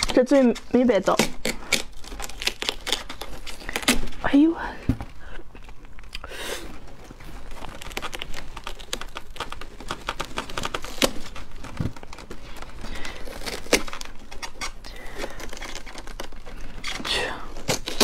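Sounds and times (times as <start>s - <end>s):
watermelon flesh tearing: 0.0s - 4.2s, 7.1s - 18.0s.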